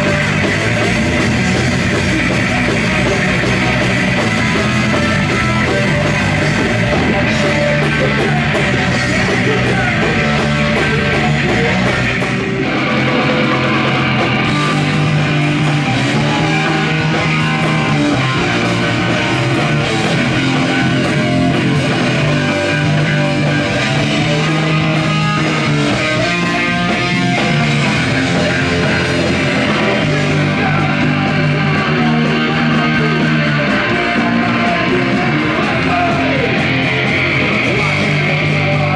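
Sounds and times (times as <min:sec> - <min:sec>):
punk rock music: 0:00.0 - 0:38.9.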